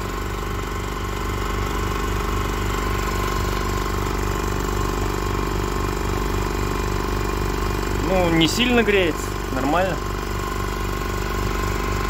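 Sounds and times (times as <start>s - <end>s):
electric motor fan humming: 0.0s - 12.0s.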